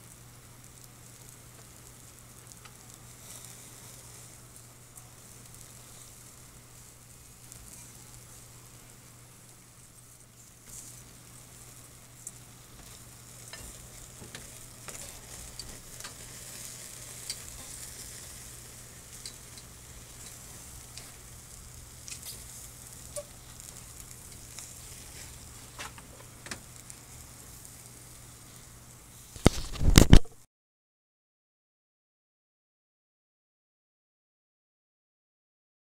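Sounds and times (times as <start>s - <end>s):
food sizzling on a grill: 0.0s - 30.2s
sharp pops and crackles: 0.3s - 30.4s.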